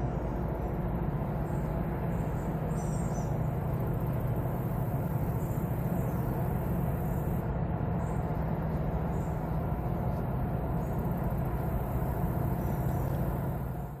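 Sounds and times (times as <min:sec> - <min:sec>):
towboat diesel engines droning: 0:00.0 - 0:14.0.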